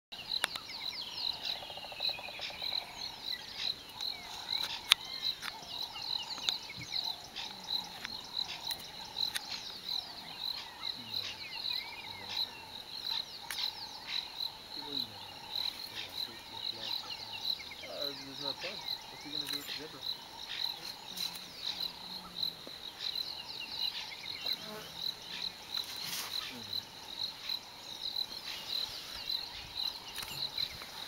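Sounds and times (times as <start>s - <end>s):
insect chirps: 0.2s - 31.0s
frog calls: 0.4s - 25.6s.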